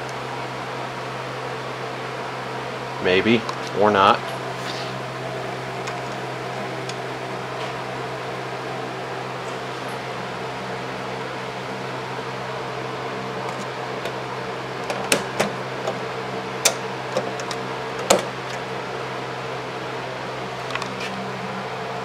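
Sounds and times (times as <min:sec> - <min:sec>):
washing machine electrical hum: 0:00.0 - 0:22.0.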